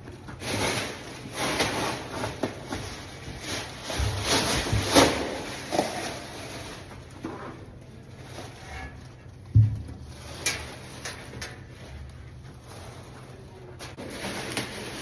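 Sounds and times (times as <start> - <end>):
objects scraping and knocking: 0.2 - 15.0.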